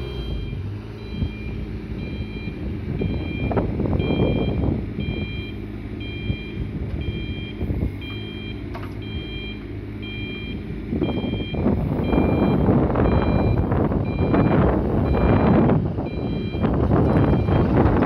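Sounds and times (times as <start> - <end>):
diesel engine running: 0.0 - 18.0
excavator travel alarm beeping: 0.0 - 18.0.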